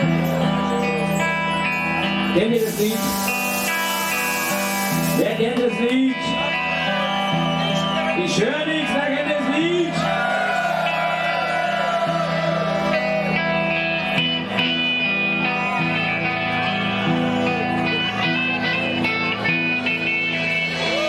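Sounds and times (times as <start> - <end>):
guitar with sustained notes: 0.0 - 21.0
live band playing: 0.0 - 21.0.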